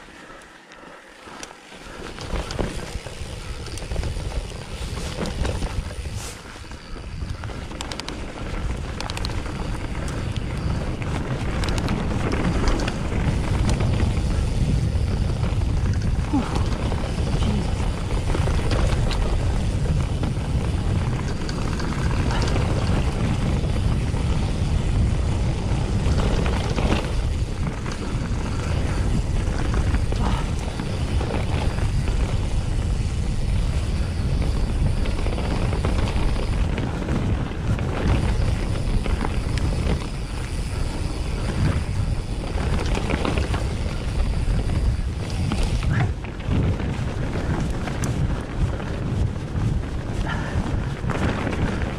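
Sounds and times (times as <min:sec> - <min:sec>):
wind buffeting microphone: 0:01.8 - 0:51.9
bike knocks and rattles: 0:02.0 - 0:51.9.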